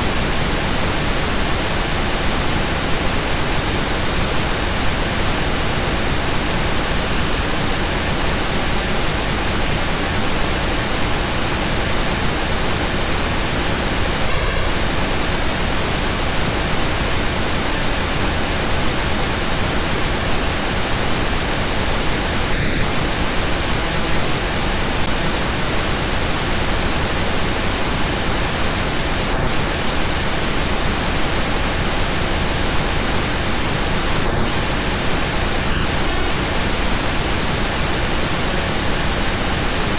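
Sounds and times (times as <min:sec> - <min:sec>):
steady hiss of noise: 0:00.0 - 0:39.9.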